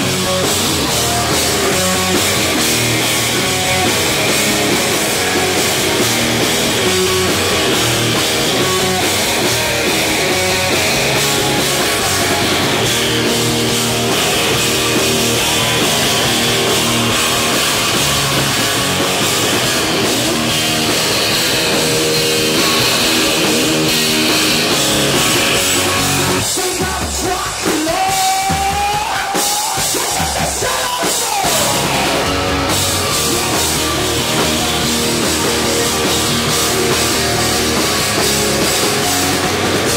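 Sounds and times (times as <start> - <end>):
bass guitar: 0.0 - 39.9
distorted electric guitar: 0.0 - 39.9
drum kit: 0.0 - 39.9.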